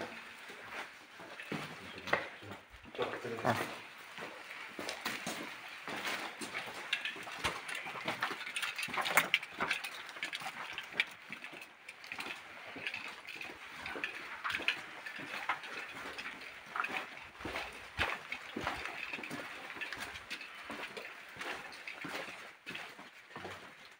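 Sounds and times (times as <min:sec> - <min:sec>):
footsteps crunching over debris: 0:00.0 - 0:23.9.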